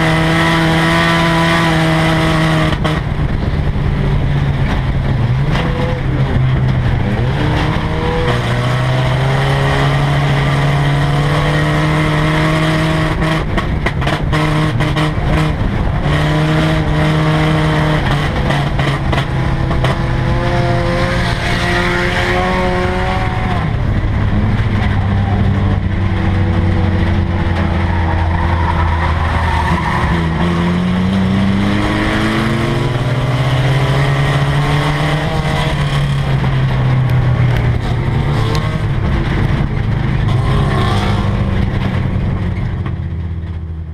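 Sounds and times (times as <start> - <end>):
race car engine revving: 0.0 - 43.6.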